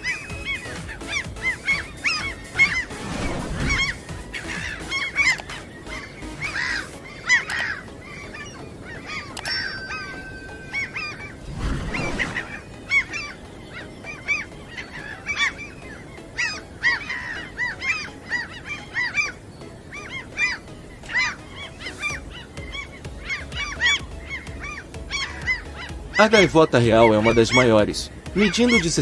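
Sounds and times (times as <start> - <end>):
gulls calling: 0.0 - 29.0.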